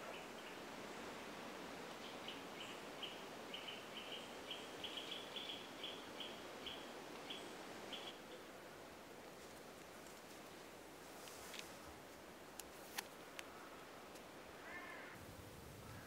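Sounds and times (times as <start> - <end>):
faint outdoor background hiss: 0.0 - 16.0.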